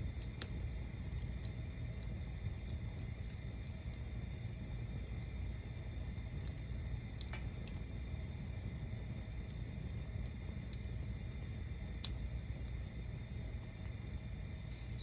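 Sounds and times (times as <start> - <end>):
bonfire rumbling: 0.0 - 15.0
fire crackles and pops: 0.0 - 15.0.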